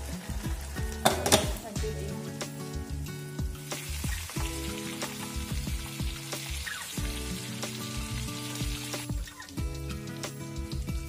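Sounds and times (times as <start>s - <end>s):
background music with steady beat: 0.0s - 11.0s
fish sizzling in oil: 0.0s - 11.0s.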